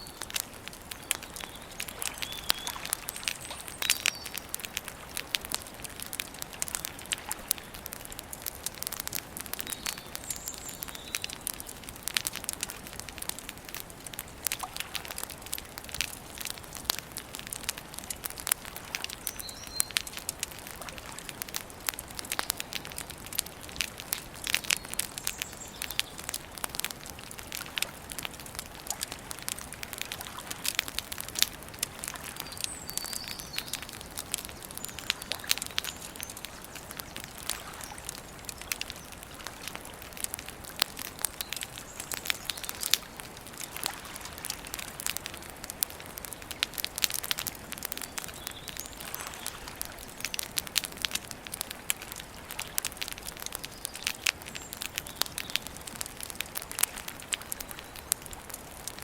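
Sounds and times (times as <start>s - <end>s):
small birds chirping: 0.0s - 17.0s, 17.8s - 27.8s, 28.5s - 43.8s, 44.4s - 50.8s, 52.2s - 56.0s, 56.8s - 58.4s
campfire crackling and popping: 0.0s - 59.0s.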